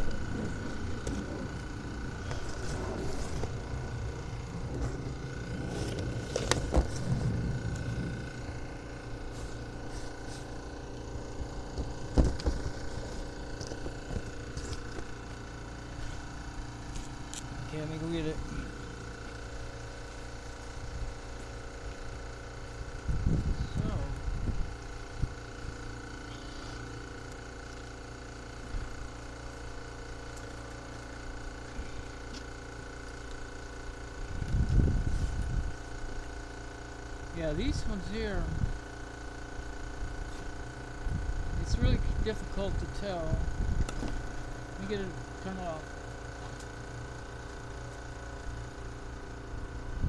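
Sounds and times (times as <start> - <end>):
air compressor motor hum: 0.0 - 50.0
faint high whine: 0.0 - 50.0
steady low rumble: 0.0 - 50.0.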